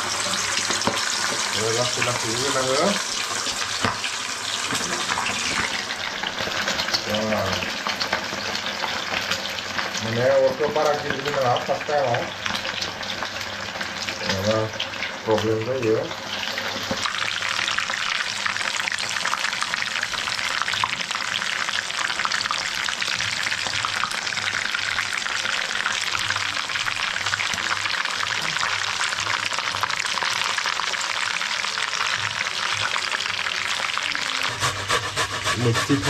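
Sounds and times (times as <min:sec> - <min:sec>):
food frying in hot oil: 0:00.0 - 0:36.0.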